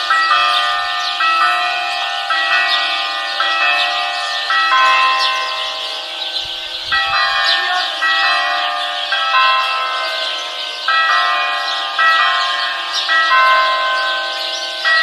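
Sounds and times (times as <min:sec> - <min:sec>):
birds chirping: 0:00.0 - 0:15.0
church bells ringing: 0:00.0 - 0:15.0.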